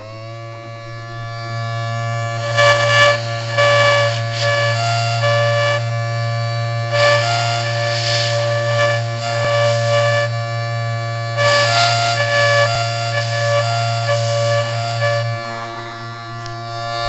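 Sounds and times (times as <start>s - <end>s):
air blowing hiss: 0.0s - 5.9s, 6.8s - 10.2s, 11.4s - 17.0s
motor hum: 0.0s - 17.0s
siren drone of fixed tones: 0.0s - 17.0s.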